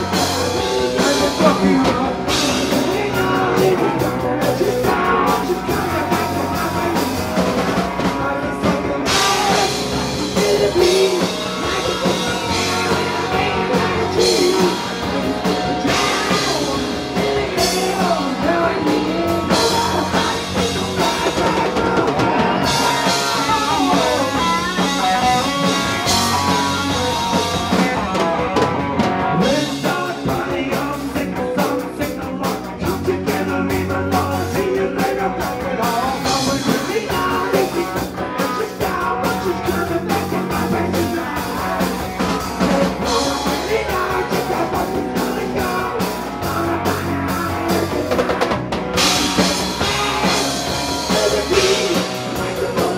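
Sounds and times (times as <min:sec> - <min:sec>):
loud live rock band: 0:00.0 - 0:52.9
sliding guitar lead line: 0:00.0 - 0:52.9.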